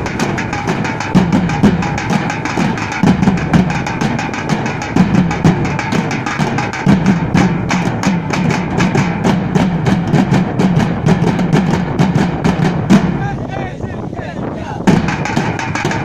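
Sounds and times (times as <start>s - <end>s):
steel drums beaten in rhythm: 0.0s - 16.0s.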